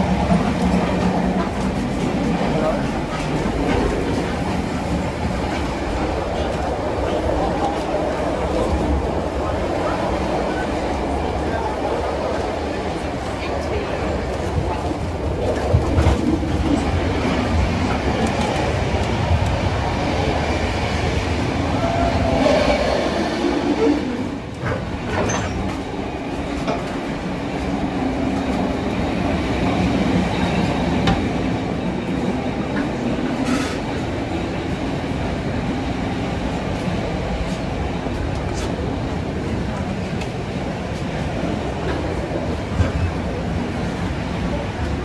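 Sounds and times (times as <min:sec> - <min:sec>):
train clicks: 0:00.0 - 0:45.0
train wheels rumbling on track: 0:00.0 - 0:45.0.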